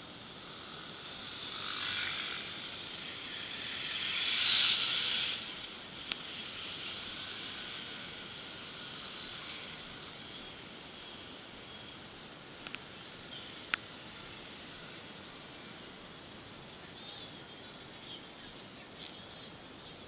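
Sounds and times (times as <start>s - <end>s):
street traffic hiss: 0.0s - 20.0s
motor scooters passing: 0.1s - 17.8s.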